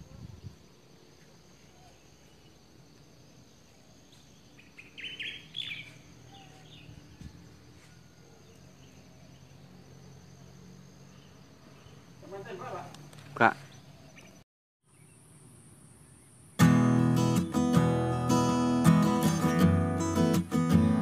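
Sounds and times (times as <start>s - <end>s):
insect drone with high whine: 0.0s - 21.0s
small birds chirping: 0.0s - 21.0s.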